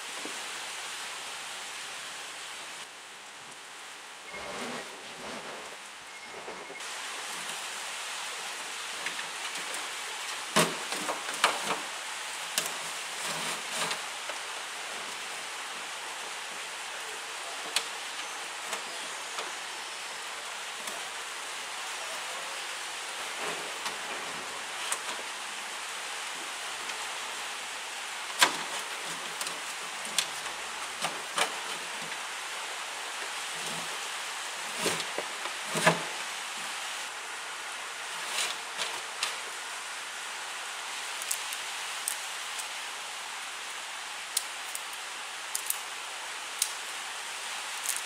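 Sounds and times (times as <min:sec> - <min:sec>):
steady hiss: 0:00.0 - 0:48.0.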